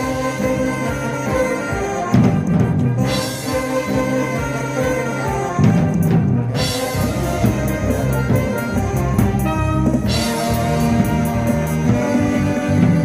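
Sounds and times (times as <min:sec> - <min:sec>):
bass: 0:00.0 - 0:13.0
brass melody: 0:00.0 - 0:13.0
drum kit with cymbal strokes: 0:00.0 - 0:13.0.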